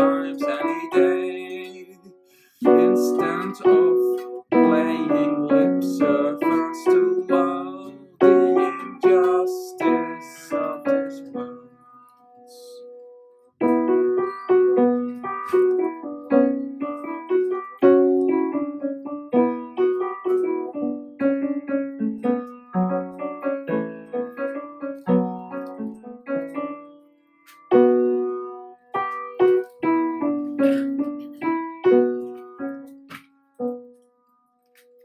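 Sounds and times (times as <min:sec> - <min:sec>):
solo piano music: 0:00.0 - 0:35.0.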